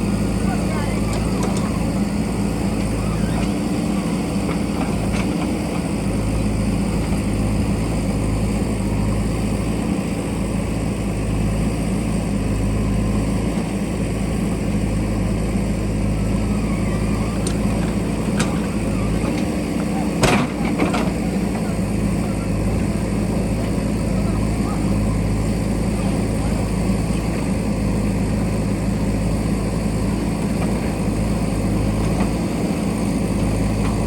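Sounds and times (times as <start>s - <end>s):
backhoe diesel engine running: 0.0s - 34.0s.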